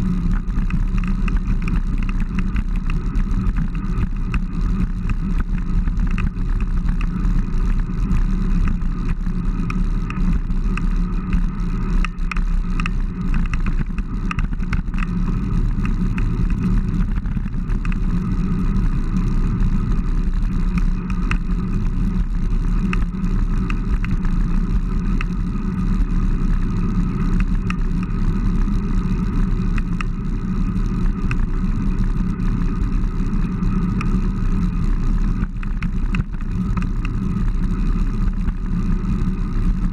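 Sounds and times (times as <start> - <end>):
bicycle road noise on asphalt: 0.0 - 39.9
wind rush on microphone: 0.0 - 39.9.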